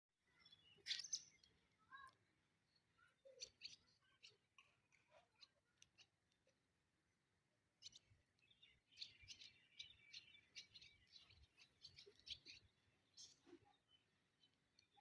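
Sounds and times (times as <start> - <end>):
pet birds chirping: 0.3 - 15.0.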